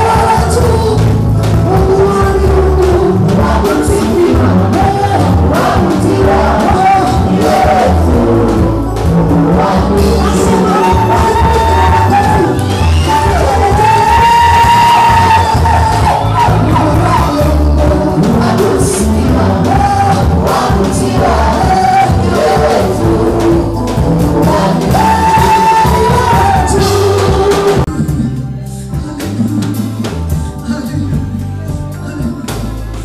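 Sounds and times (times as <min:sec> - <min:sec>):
congregation singing: 0:00.0 - 0:32.7
live band playing: 0:00.0 - 0:33.0.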